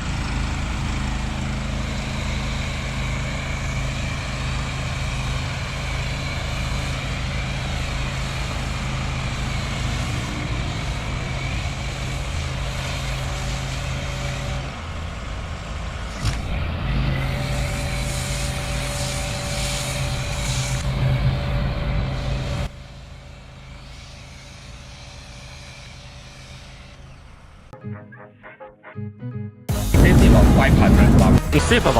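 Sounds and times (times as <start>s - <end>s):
generator and pump drone: 0.0s - 27.8s, 29.7s - 31.9s.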